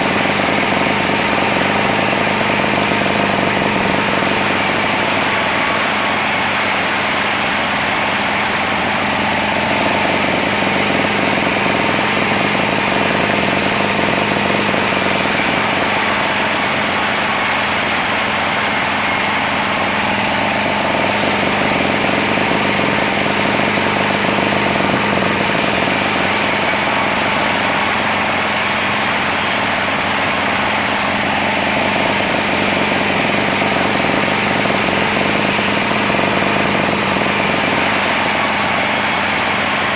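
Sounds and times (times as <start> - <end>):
sawmill machine hum and whine: 0.0 - 39.9.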